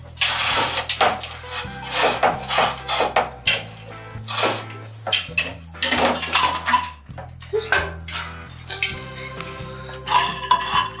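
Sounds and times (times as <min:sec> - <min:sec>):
background music with bass line: 0:00.0 - 0:11.0
metal pipe clanking and scraping: 0:00.0 - 0:11.0.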